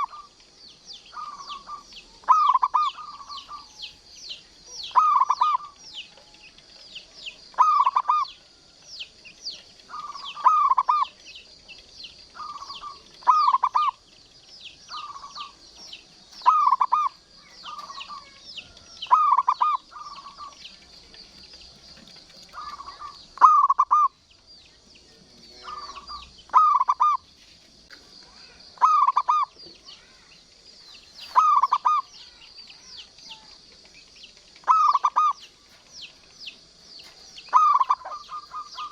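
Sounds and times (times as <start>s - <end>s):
dove cooing: 0.0s - 8.8s, 9.7s - 24.2s, 25.1s - 27.3s, 28.3s - 30.3s, 30.9s - 38.9s
high-pitched chirping: 0.0s - 27.4s, 28.2s - 38.9s.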